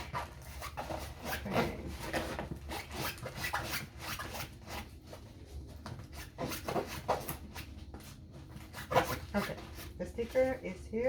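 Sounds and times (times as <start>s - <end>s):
stiff canvas rustling and scraping: 0.0s - 11.0s.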